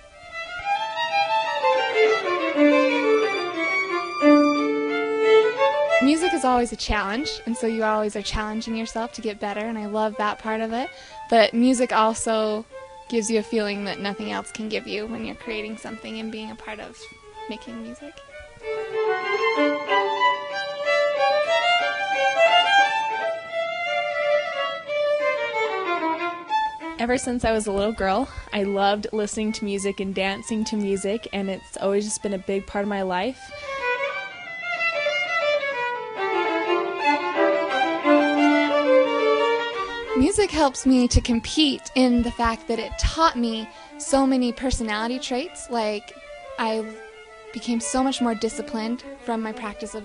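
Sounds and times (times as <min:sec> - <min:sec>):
violin duet: 0:00.0 - 0:50.0.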